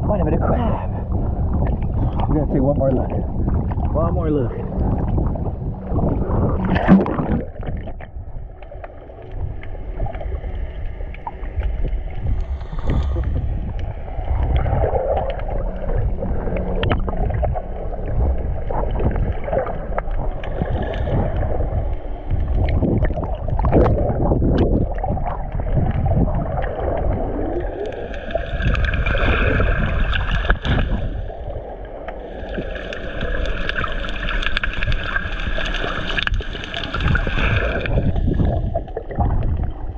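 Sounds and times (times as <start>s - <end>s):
bubbling water: 0.0s - 39.9s
muffled underwater rumble: 0.0s - 39.9s
underwater clicks: 6.0s - 31.2s, 31.9s - 39.9s.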